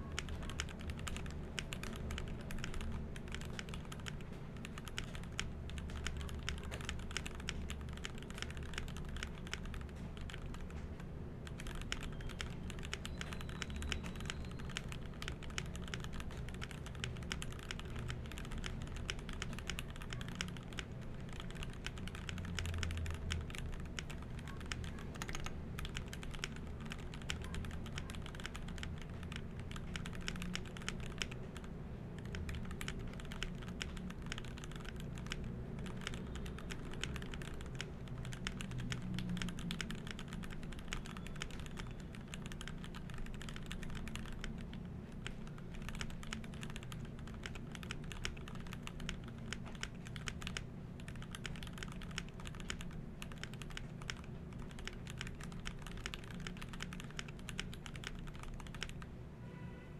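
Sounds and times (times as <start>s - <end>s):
fast mechanical keyboard typing: 0.0s - 59.1s.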